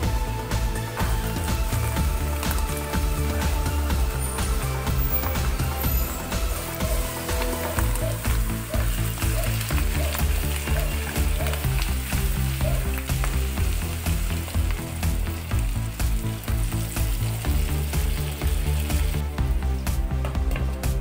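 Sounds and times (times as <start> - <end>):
background music with steady beat: 0.0 - 21.0
chicken sizzling in a pan: 0.6 - 19.4.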